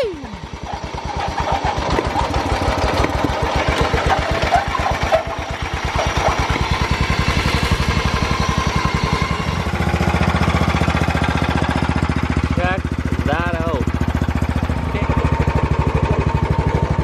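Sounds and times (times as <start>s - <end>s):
lawn mower engine running: 0.0s - 17.0s
knocks and rattles: 0.4s - 17.0s.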